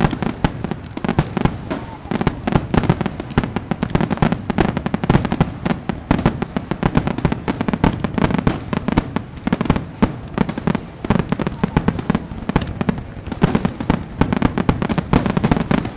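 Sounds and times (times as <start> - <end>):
fireworks bangs and crackling pops: 0.0 - 15.9.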